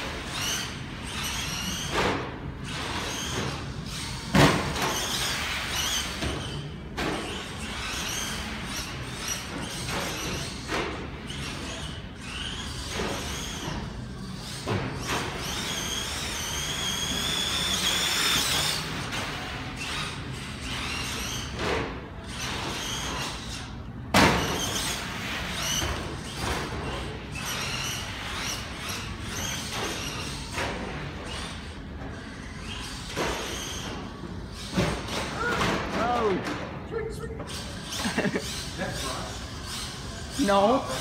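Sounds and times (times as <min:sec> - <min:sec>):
rc truck motor whine: 0:00.0 - 0:35.3.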